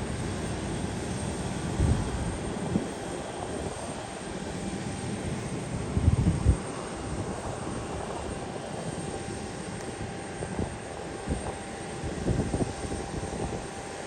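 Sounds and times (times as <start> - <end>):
aircraft engines rumbling: 0.0 - 14.0.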